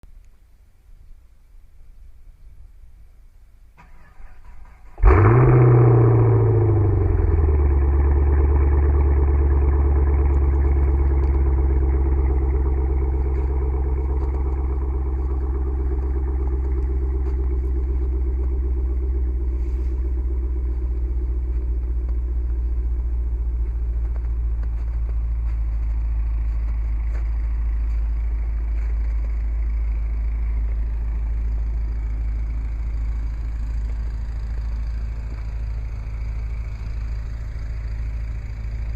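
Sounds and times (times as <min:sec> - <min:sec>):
car engine cranking: 0:03.8 - 0:38.9
car engine revving and idling: 0:03.8 - 0:38.9.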